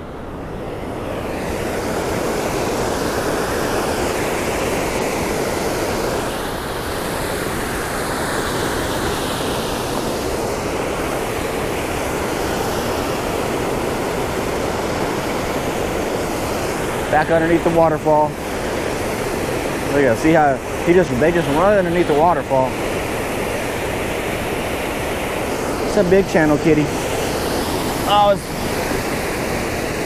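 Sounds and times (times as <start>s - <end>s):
river water rushing over spillway: 0.0s - 30.0s.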